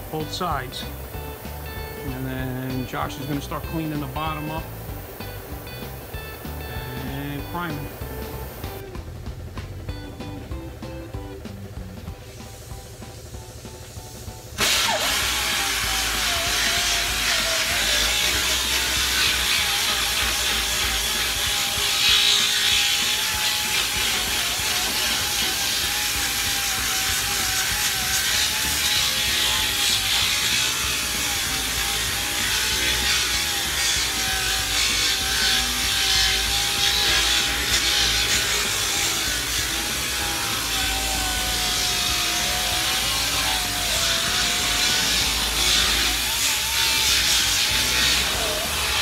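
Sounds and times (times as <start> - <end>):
disc grinding metal: 0.0 - 8.9, 14.6 - 49.0
grinder motor whine: 0.0 - 49.0.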